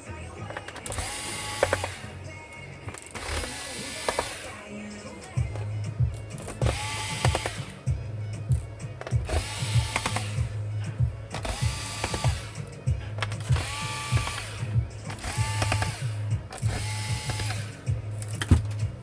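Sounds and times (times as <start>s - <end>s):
electronic music with synth tones: 0.0s - 19.0s.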